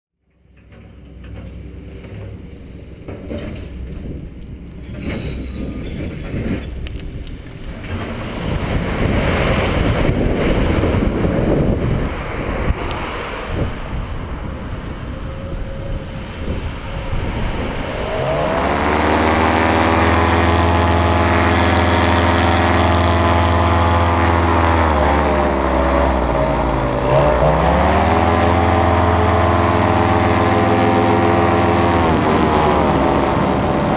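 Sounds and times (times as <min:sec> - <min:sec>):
paramotor engine drone: 0:00.6 - 0:33.9
rushing noise with low rumble: 0:01.0 - 0:33.9.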